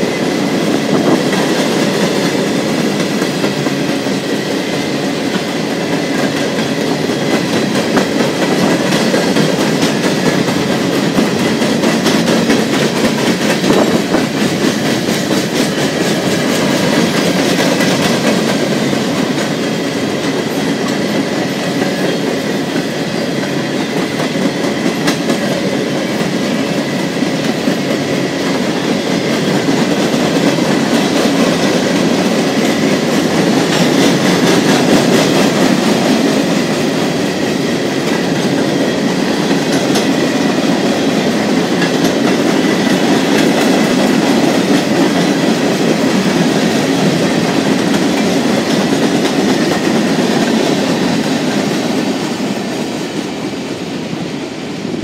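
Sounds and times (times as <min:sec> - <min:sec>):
wheels clicking over rail joints: 0:00.0 - 0:52.9
steel wheels rumbling on rail: 0:00.0 - 0:55.0.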